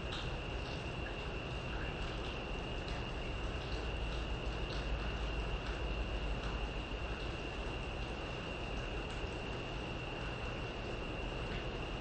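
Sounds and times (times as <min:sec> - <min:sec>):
crickets trilling: 0:00.0 - 0:12.0
rain falling on leaves: 0:00.0 - 0:12.0.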